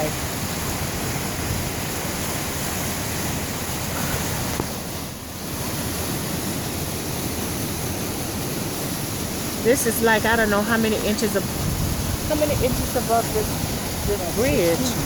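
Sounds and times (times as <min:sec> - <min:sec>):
flooded river rushing: 0:00.0 - 0:15.0.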